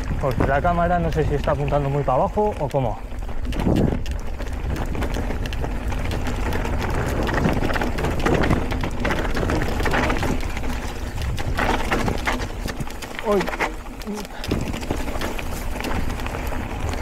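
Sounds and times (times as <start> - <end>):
bike tyre noise on trail: 0.0 - 17.0
small rattles and clicks: 0.0 - 17.0
wind rumbling on microphone: 0.0 - 17.0.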